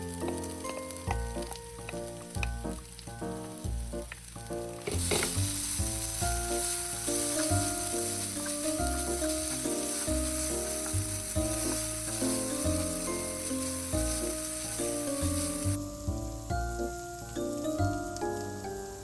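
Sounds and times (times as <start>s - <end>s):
background music: 0.0s - 19.0s
food sizzling in frying pan: 0.0s - 19.0s.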